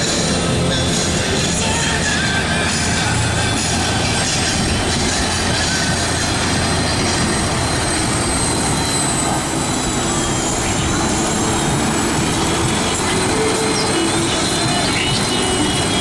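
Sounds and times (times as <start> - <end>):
high whine: 0.0 - 16.0
tractor engine running hard: 0.0 - 16.0.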